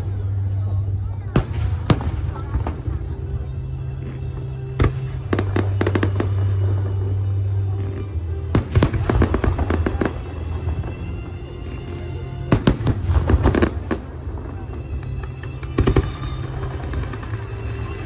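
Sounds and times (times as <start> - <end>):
music playing: 0.0 - 18.0
fireworks bursting and crackling: 1.4 - 7.2, 7.8 - 18.0.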